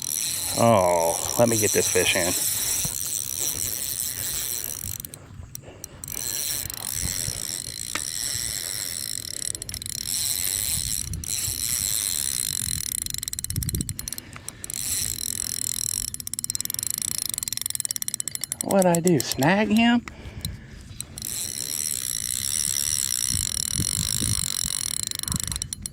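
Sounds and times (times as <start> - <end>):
fishing reel drag clicking: 0.0 - 25.9.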